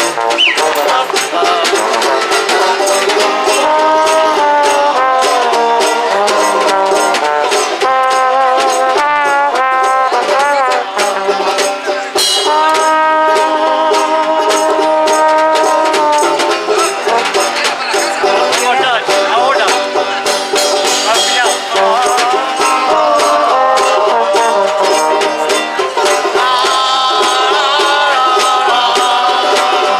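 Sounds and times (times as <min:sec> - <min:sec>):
double bass: 0:00.0 - 0:29.9
snare drum: 0:00.0 - 0:29.9
trombone: 0:00.0 - 0:29.9.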